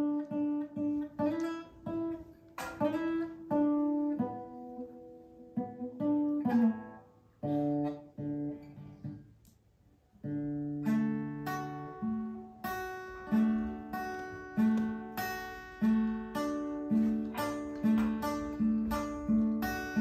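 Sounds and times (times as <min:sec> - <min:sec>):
acoustic guitar chords: 0:00.0 - 0:09.4, 0:10.1 - 0:20.0.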